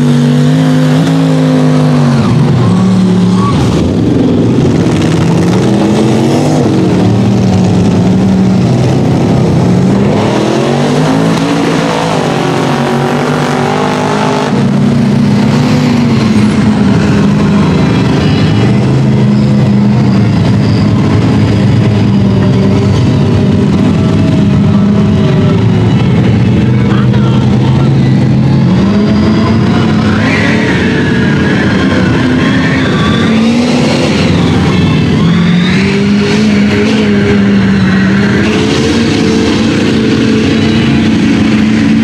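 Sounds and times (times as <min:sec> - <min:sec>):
truck engines revving: 0:00.0 - 0:42.0.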